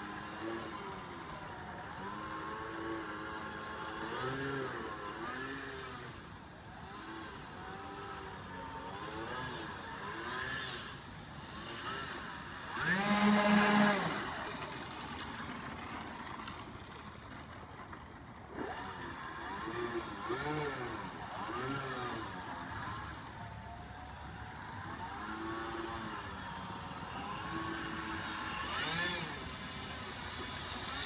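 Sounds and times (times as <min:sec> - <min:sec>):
electric motors whining: 0:00.0 - 0:17.0, 0:18.4 - 0:31.0.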